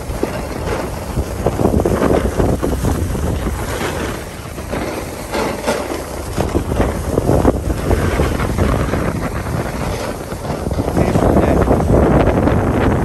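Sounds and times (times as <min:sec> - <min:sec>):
snowboard scraping on snow: 0:00.0 - 0:13.0
wind buffeting microphone: 0:00.0 - 0:13.0.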